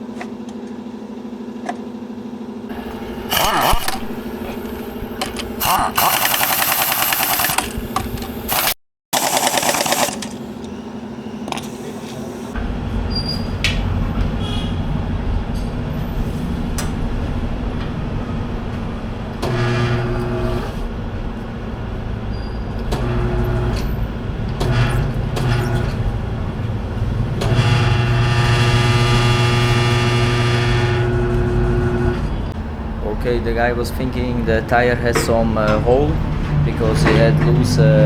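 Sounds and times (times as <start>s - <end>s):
machine motor running: 0.0s - 13.0s, 17.2s - 38.0s
constant low hum: 0.0s - 38.0s.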